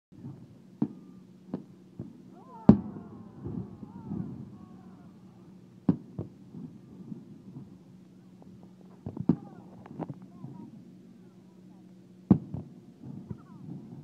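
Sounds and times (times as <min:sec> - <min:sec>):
fireworks bursting: 0:00.2 - 0:10.8, 0:12.2 - 0:14.0.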